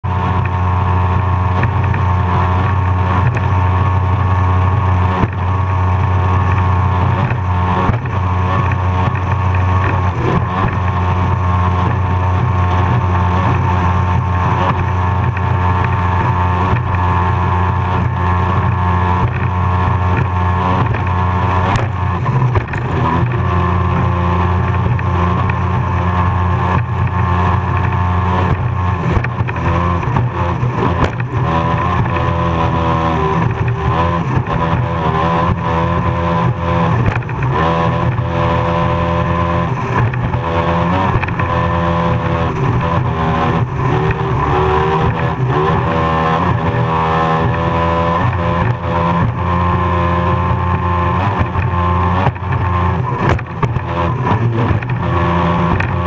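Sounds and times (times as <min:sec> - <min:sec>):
powerboat engine running hard: 0:00.0 - 0:56.0.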